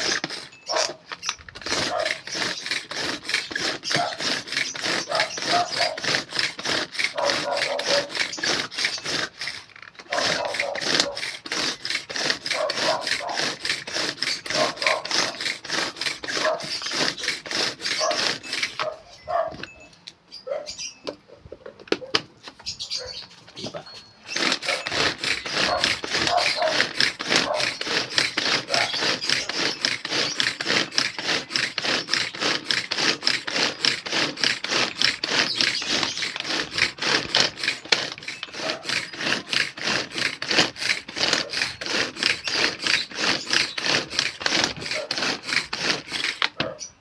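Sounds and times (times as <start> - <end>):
scraping vegetables by hand: 0.0 - 19.5, 22.0 - 46.9.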